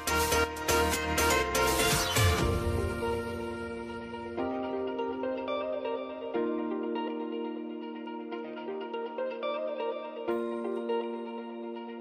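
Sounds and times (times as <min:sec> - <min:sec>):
held chord ringing: 0:00.0 - 0:12.0
music with a beat: 0:00.0 - 0:12.0.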